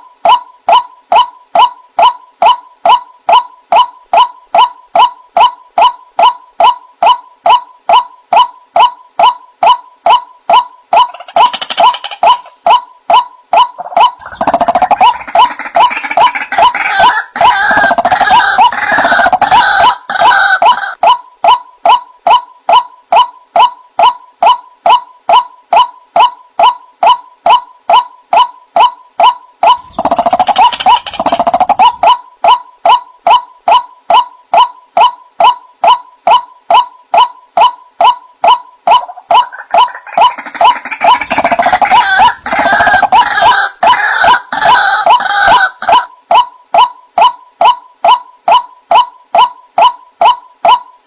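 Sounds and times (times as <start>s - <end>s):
croaking and chattering bird calls: 0.0s - 50.9s.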